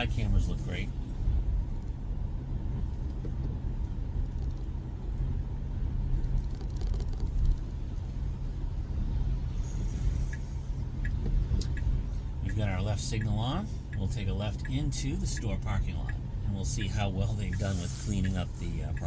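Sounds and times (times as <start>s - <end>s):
road and tyre rumble in car cabin: 0.0s - 19.0s.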